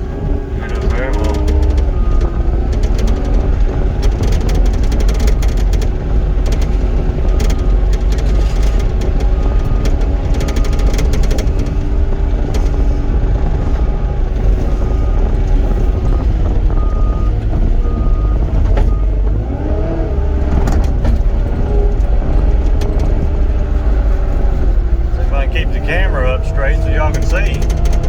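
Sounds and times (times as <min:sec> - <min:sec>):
diesel loader engine rumble: 0:00.0 - 0:28.0.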